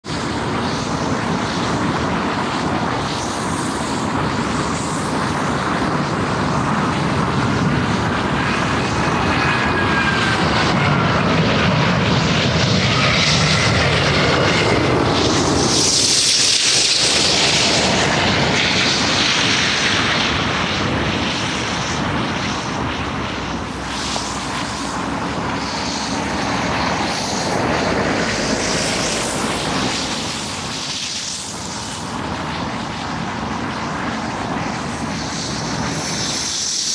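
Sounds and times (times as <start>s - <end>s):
distant airliner on approach: 0.0s - 36.9s
jet airliner passing overhead: 0.0s - 36.9s.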